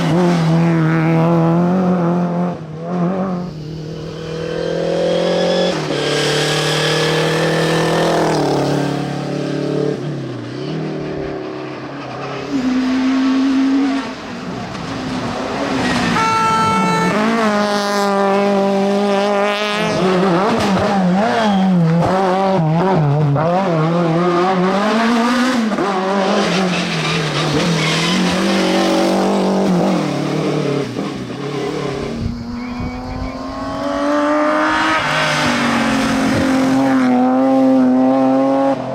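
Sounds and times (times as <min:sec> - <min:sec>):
rally car engines racing: 0:00.0 - 0:38.9.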